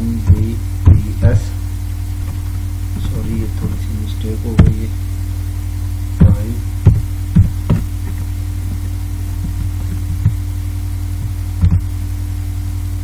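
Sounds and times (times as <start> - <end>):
low electrical mains hum: 0.0 - 13.0.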